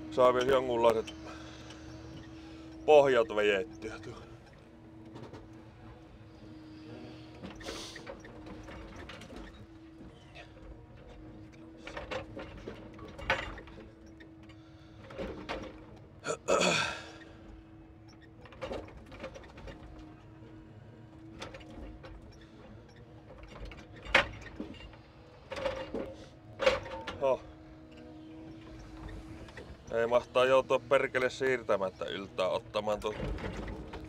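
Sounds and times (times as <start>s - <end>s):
hydraulic crane hum: 0.0s - 34.0s.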